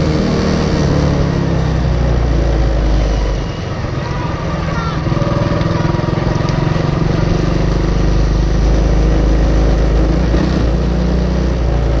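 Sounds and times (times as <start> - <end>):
kart engine droning: 0.0 - 12.0.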